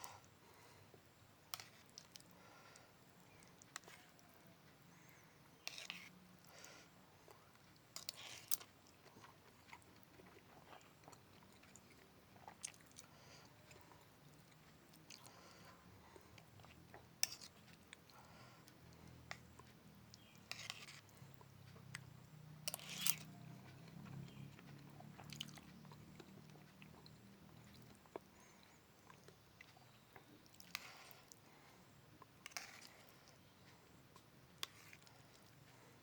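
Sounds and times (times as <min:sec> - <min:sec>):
faint low hum: 0:00.0 - 0:36.0
person chewing: 0:05.6 - 0:31.4, 0:32.2 - 0:33.4, 0:34.1 - 0:35.9.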